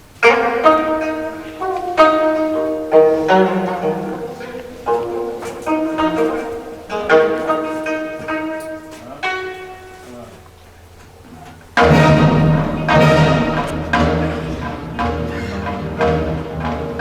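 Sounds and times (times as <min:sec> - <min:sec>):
slow plucked string melody: 0:00.2 - 0:10.9, 0:11.7 - 0:17.0.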